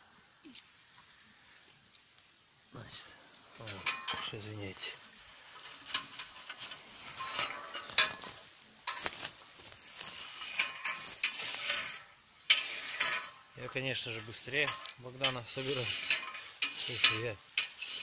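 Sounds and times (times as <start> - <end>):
rustling and crackling of shrubs: 0.0 - 18.0.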